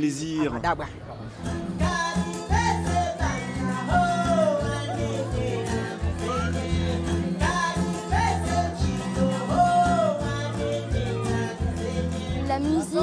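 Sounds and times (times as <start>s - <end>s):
plucked guitar: 1.3s - 13.0s
man singing: 1.8s - 13.0s.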